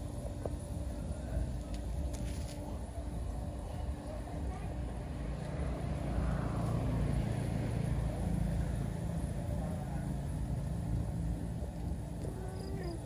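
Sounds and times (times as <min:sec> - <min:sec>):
motor humming and rumbling: 0:00.0 - 0:13.0.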